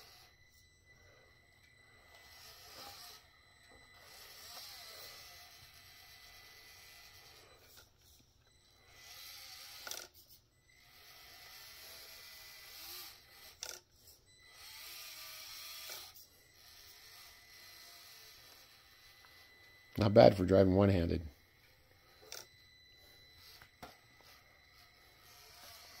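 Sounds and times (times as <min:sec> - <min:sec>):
small electric motor whirring: 0:00.0 - 0:26.0.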